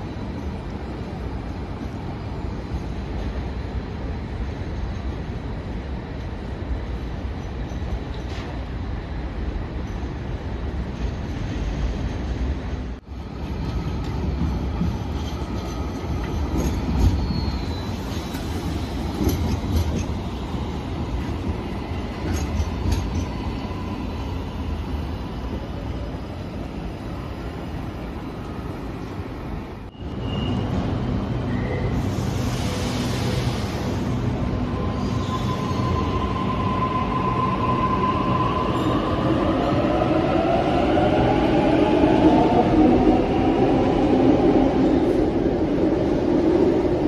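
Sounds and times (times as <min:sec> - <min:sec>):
tram rumbling on rails: 0:00.0 - 0:47.0.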